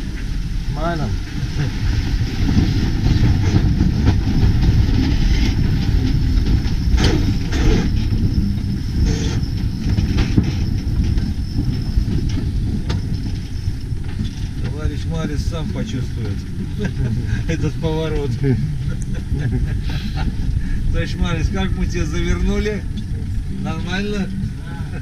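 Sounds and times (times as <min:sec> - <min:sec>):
water rushing along hull: 0:00.0 - 0:25.0
wind buffeting microphone: 0:00.0 - 0:25.0.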